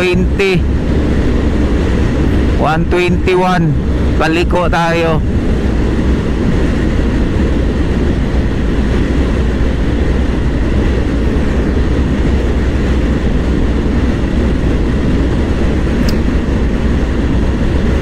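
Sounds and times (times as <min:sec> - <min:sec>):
scooter engine and road noise: 0:00.0 - 0:18.0
wind buffeting microphone: 0:00.0 - 0:18.0.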